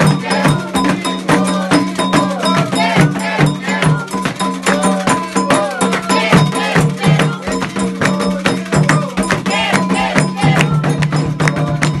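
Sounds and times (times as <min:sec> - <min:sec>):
hand drums: 0:00.0 - 0:12.0
ringing iron bell: 0:00.0 - 0:12.0
voices singing: 0:00.0 - 0:12.0.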